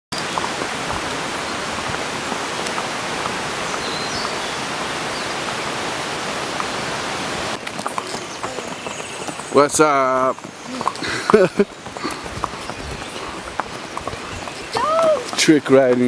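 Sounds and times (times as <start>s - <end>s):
rushing running water: 0.1s - 16.0s.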